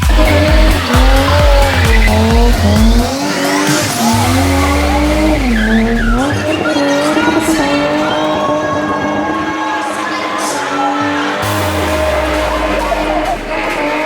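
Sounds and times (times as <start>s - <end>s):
car engine at high revs: 0.0s - 14.0s
dance music with thumping beat: 0.0s - 14.0s
tyres spinning and squealing: 0.0s - 14.0s.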